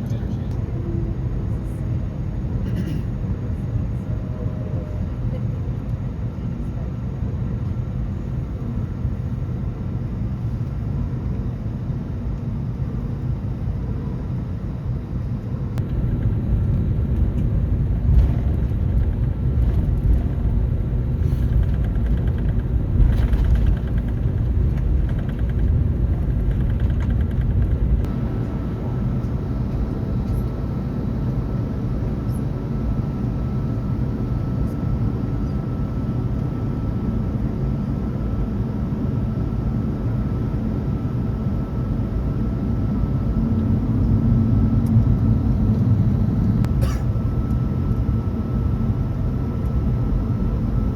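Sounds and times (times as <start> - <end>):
aircraft cabin rumble: 0.0 - 50.9.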